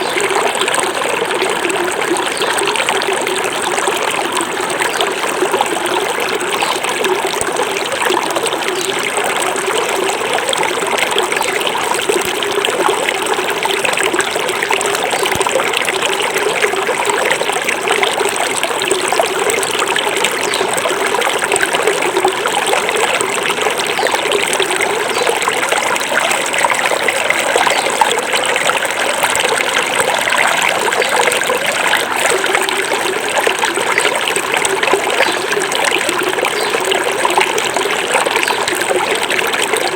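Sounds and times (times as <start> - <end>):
river babbling and trickling: 0.0 - 39.9.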